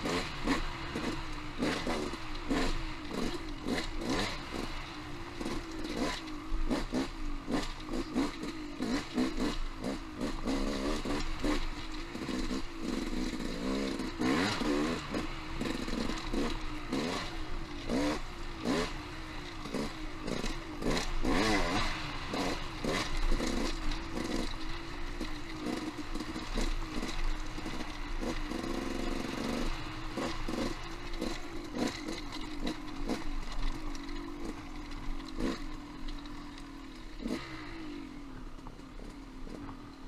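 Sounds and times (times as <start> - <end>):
motorcycle engine revving: 0.0 - 40.0
knocks and clatter over rocks: 5.4 - 37.5.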